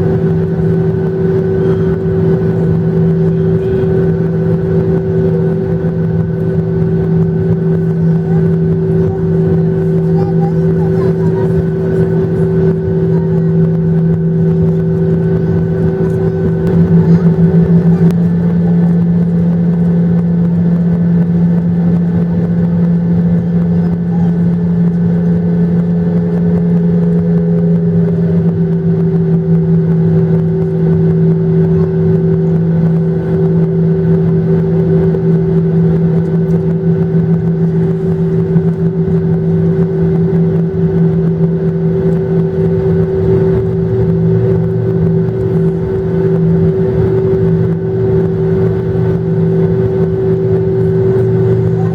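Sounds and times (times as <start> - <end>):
jet engines droning: 0.0 - 51.9.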